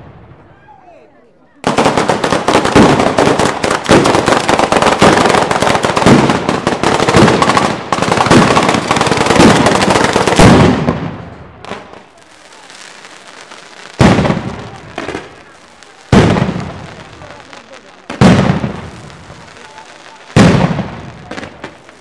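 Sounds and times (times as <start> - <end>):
firecrackers crackling: 1.6 - 22.0.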